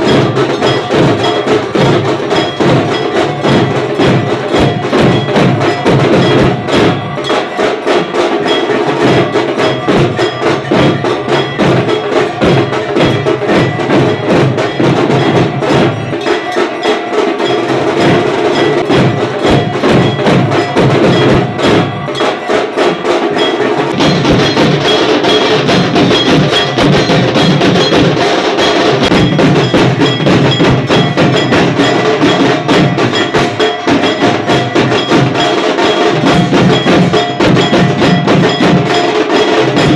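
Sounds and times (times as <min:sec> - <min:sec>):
rhythmic percussion music: 0:00.0 - 0:39.9
ringing metallic bell tones: 0:00.0 - 0:39.9.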